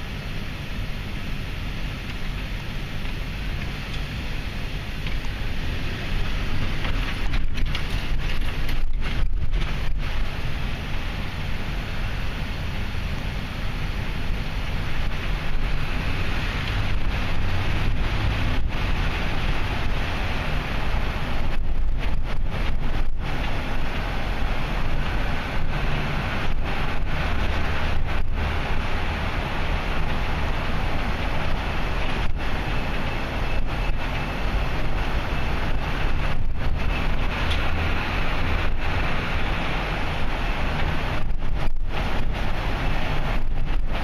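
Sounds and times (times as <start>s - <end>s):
vehicle engine rumble: 0.0s - 44.0s.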